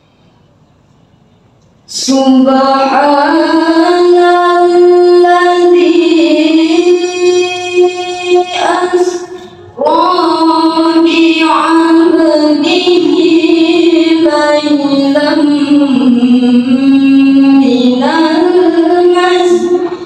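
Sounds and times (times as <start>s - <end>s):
girl reciting melodically: 1.9s - 20.0s.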